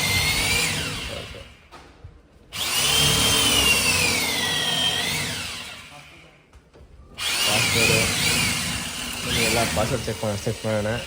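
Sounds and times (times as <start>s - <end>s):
motor whir with high whine: 0.0s - 1.6s, 2.5s - 6.3s, 7.1s - 11.0s.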